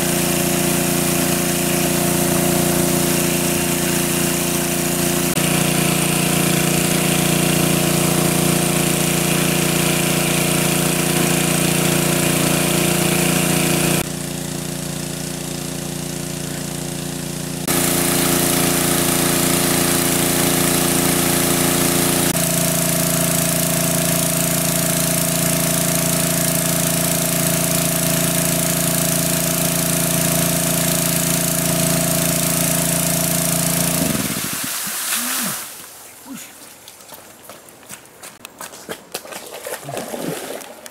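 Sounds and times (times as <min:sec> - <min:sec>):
water pump engine droning: 0:00.0 - 0:35.9, 0:39.4 - 0:40.9.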